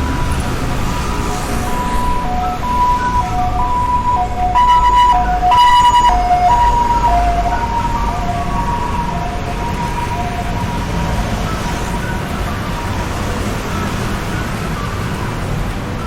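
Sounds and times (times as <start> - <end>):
city traffic rumble: 0.0 - 16.0
two-tone hi-lo siren: 0.0 - 16.0.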